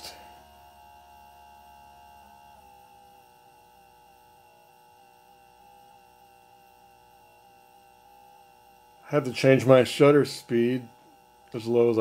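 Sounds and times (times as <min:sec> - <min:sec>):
air pump humming: 0:00.0 - 0:12.0.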